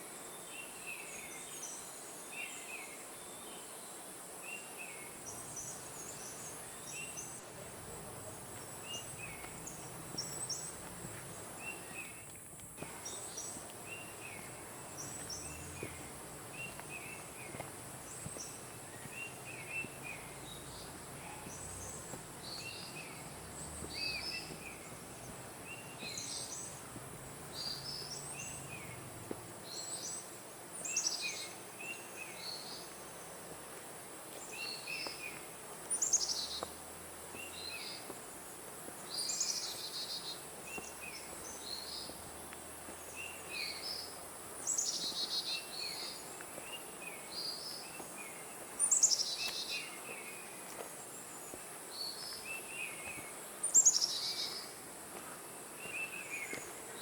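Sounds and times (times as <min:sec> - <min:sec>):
birds chirping: 0:00.4 - 0:33.4, 0:39.1 - 0:57.0.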